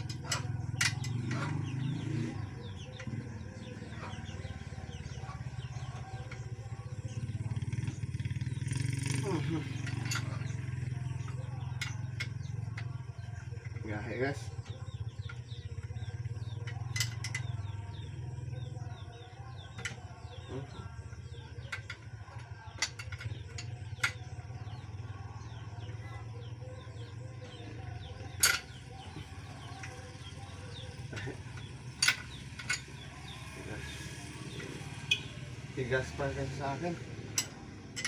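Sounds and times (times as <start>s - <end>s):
birds chirping: 0.0s - 38.0s
metal tools clinking on engine parts: 0.0s - 38.0s.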